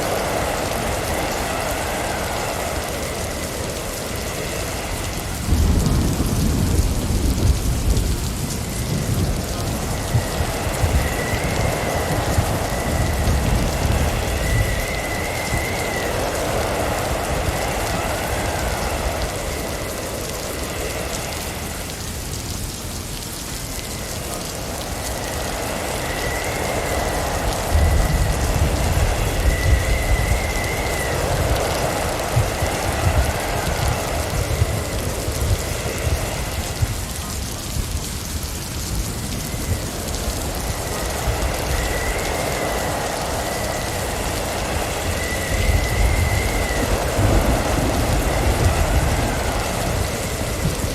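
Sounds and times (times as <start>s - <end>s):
gusty wind rumbles: 0.0s - 50.9s
hiss of wind-driven snow: 0.0s - 50.9s.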